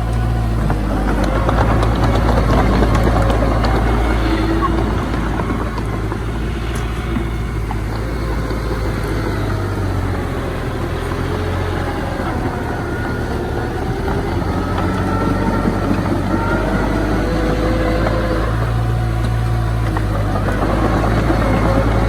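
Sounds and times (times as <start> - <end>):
heavy diesel engine running: 0.0 - 22.0
thin whine: 0.0 - 22.0.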